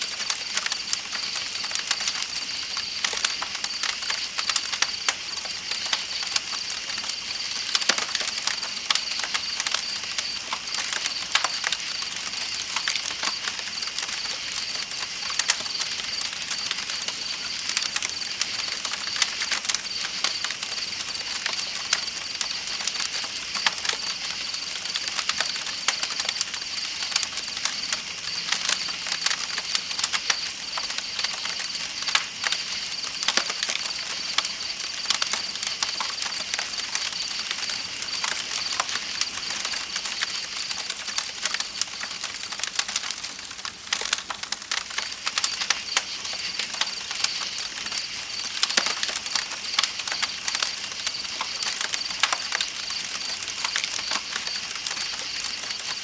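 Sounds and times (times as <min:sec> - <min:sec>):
campfire crackling and popping: 0:00.0 - 0:56.0
night insects chirring: 0:00.1 - 0:56.0.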